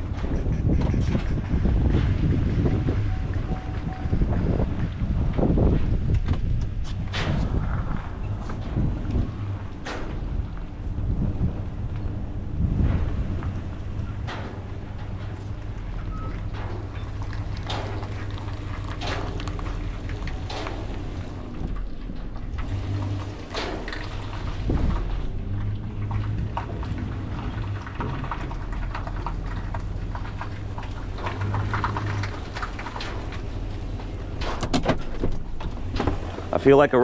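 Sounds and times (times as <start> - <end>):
rain ticking on truck: 0.0 - 37.0
truck engine low hum: 0.0 - 37.0.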